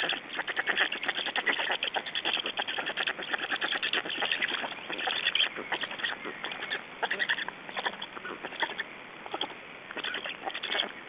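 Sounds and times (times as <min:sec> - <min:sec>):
stork chicks rasping chatter: 0:00.0 - 0:11.0.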